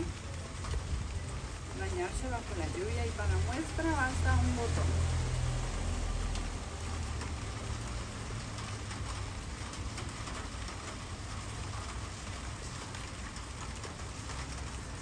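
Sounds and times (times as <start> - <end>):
rain drop ticks: 0.0 - 15.0
steady rain hiss: 0.0 - 15.0.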